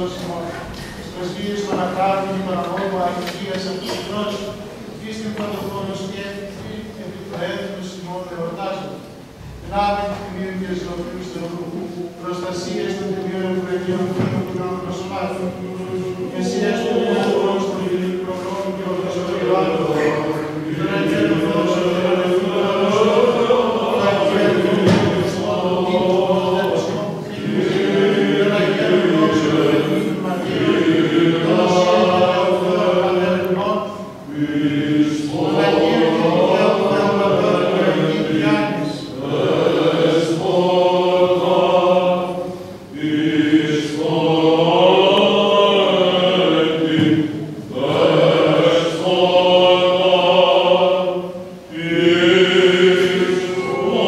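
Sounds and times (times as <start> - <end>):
chant singing in a church: 0.0 - 54.0.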